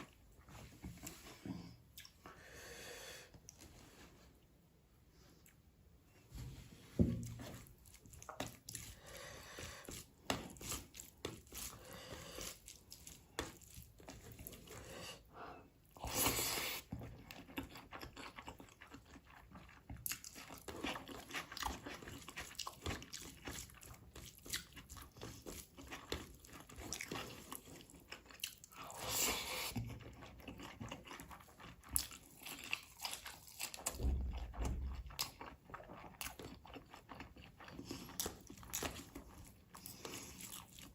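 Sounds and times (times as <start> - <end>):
chewing and crunching food: 7.2 - 40.9.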